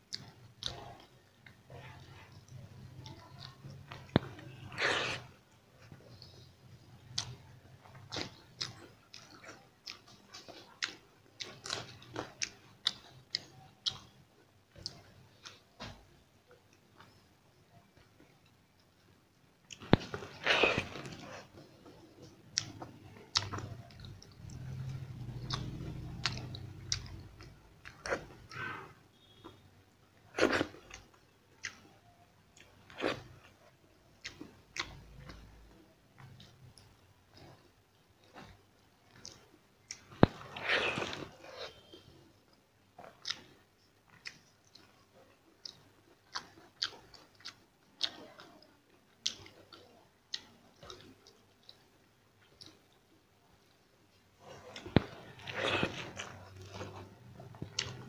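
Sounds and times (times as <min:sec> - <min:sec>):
person chewing: 0:00.0 - 0:17.2, 0:19.7 - 0:29.6, 0:30.2 - 0:58.0.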